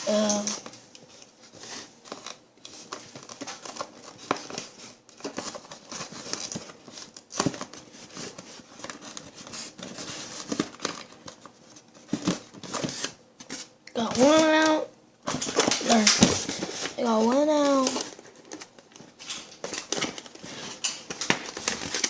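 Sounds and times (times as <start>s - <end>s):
packaging crinkling: 0.0s - 14.7s, 15.3s - 22.0s.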